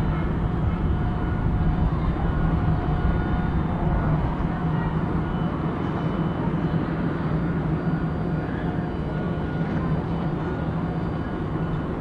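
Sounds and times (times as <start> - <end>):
ship diesel engines droning: 0.0 - 12.0.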